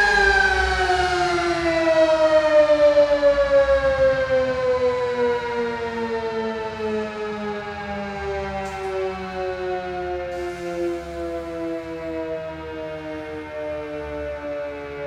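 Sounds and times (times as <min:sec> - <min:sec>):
warning siren winding down: 0:00.0 - 0:15.0.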